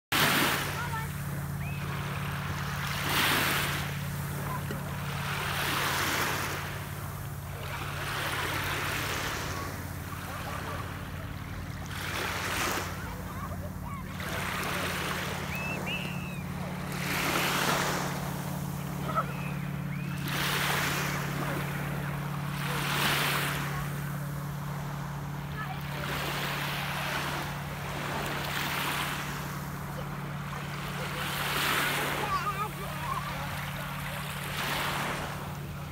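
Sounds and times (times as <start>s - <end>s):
waves lapping on pebble shore: 0.1s - 35.9s
steady low hum: 0.2s - 35.9s.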